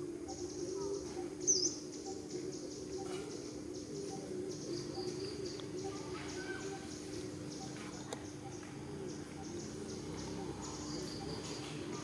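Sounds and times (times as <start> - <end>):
insects chirping: 0.0 - 12.0
steady low hum: 0.0 - 12.0
bird chirp: 0.2 - 12.0.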